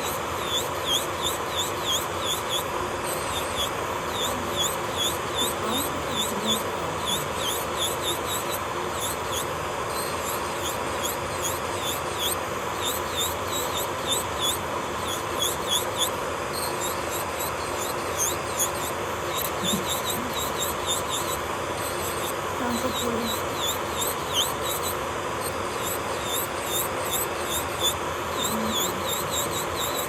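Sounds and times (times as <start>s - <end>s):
electric nail drill running: 0.0s - 30.0s
high squeaky chirps: 0.0s - 30.0s.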